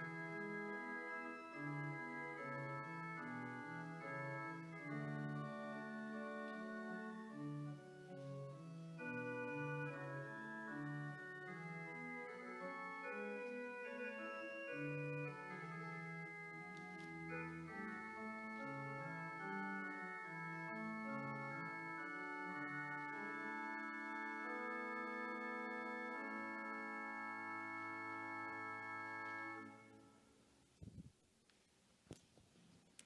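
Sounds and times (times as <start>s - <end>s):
organ playing slow music: 0.0s - 30.4s.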